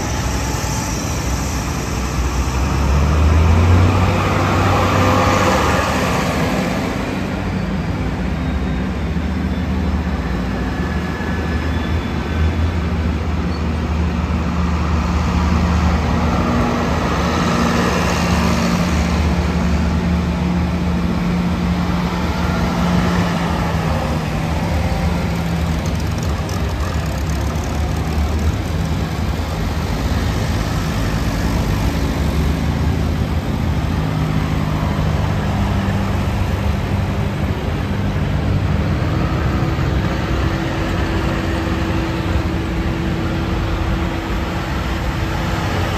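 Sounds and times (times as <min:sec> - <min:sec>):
tractor diesel engines driving past: 0:00.0 - 0:45.9.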